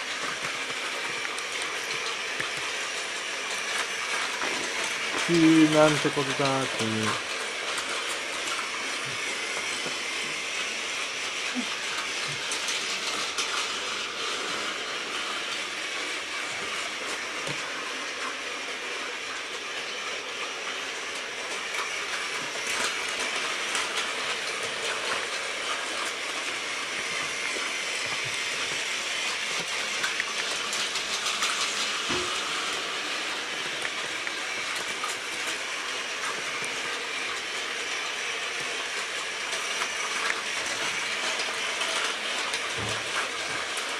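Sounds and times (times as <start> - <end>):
toy train motor whirring: 0.0 - 43.9
wheels clicking on track: 0.0 - 43.9.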